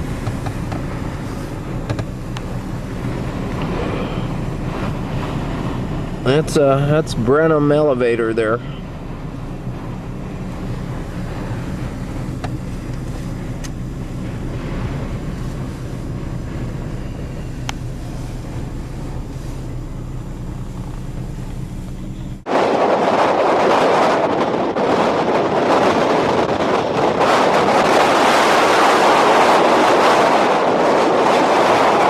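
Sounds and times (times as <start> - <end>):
loud rushing noise: 0.0 - 32.0
vehicle engine humming: 0.0 - 32.0
wind buffeting car: 0.0 - 32.0.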